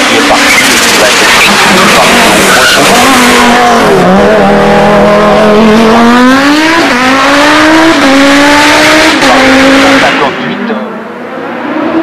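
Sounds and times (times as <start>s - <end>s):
race car accelerating past: 1.5s - 12.0s.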